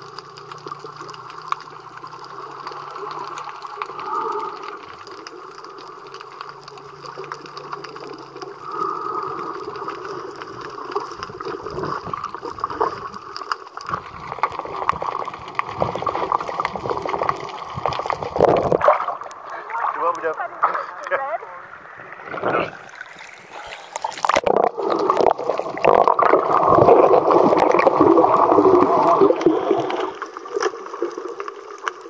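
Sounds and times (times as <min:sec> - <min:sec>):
water sloshing and splashing: 0:00.0 - 0:21.1, 0:21.8 - 0:32.0
underwater gurgling wash: 0:00.0 - 0:32.0.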